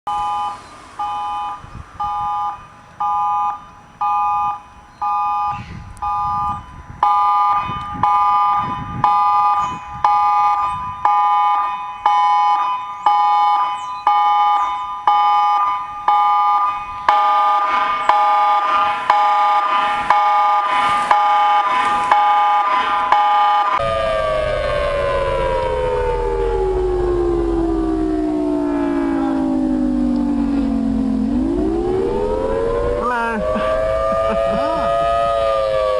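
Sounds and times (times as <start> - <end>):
emergency alert tone beeping: 0.1 - 35.9.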